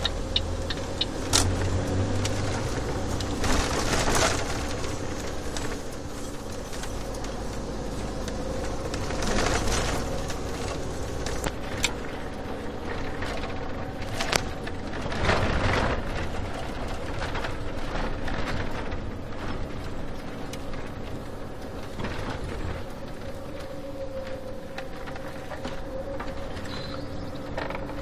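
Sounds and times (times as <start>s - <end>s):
vehicle engine and road hum: 0.0s - 28.0s.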